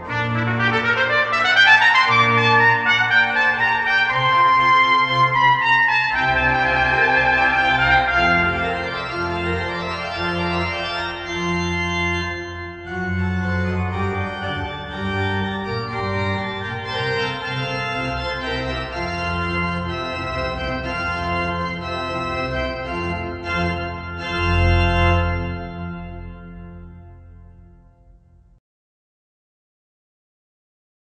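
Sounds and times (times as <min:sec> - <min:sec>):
organ music: 0:00.0 - 0:28.4.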